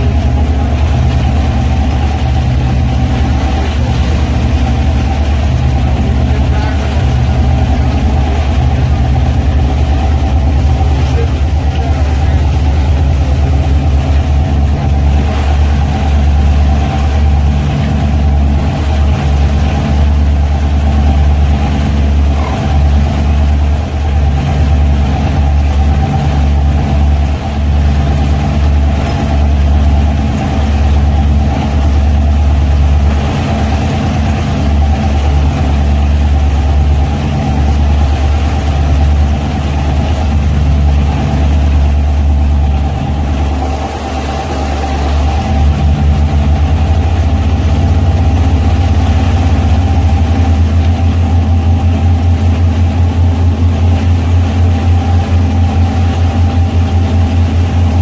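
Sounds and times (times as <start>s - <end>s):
boat engines droning: 0.0s - 58.0s
wind and water rushing: 0.0s - 58.0s.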